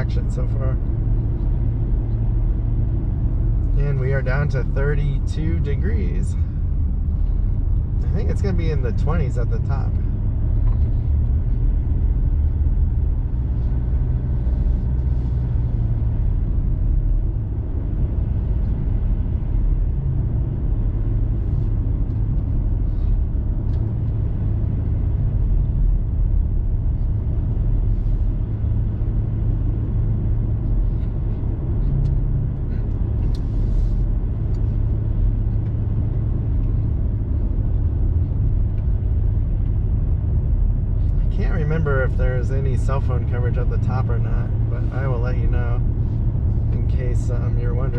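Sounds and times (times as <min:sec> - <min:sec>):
vehicle engine hum: 0:00.0 - 0:47.9.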